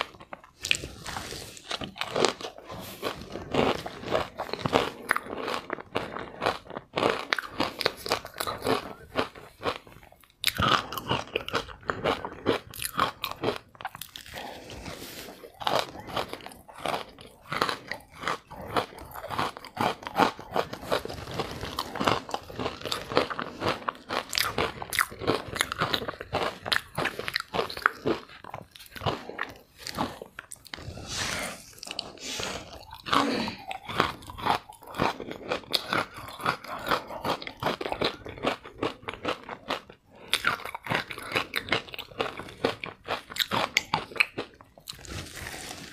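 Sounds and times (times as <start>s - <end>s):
chewing crunchy ice: 0.0s - 45.9s.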